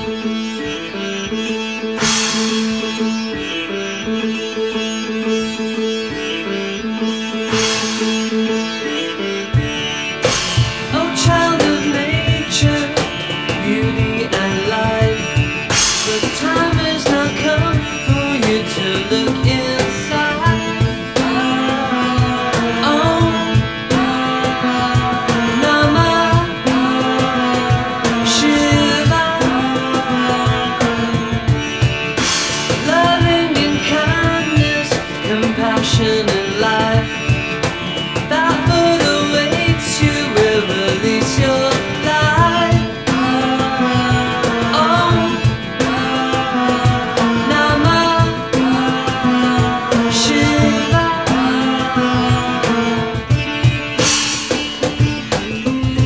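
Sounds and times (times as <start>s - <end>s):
low repeating riff: 0.0s - 56.0s
sitar melody: 0.0s - 56.0s
steady percussion: 1.6s - 4.1s, 7.4s - 56.0s.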